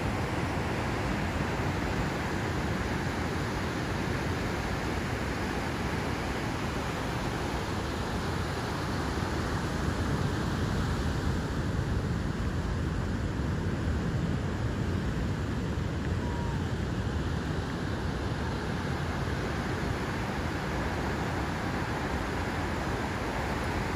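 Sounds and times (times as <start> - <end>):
ocean surf breaking: 0.0 - 12.0, 15.5 - 23.9.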